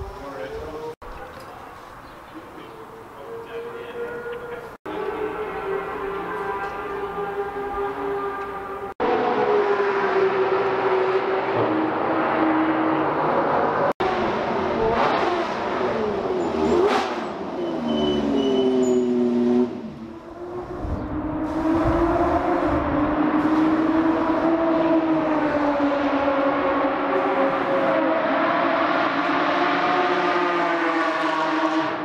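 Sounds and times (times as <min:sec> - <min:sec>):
race car engines revving and passing: 0:02.3 - 0:32.0.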